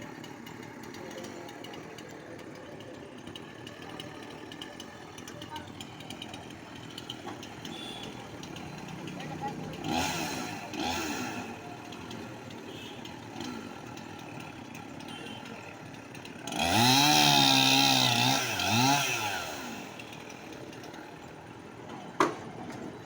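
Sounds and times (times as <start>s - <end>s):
chainsaw engine revving: 0.0s - 21.7s.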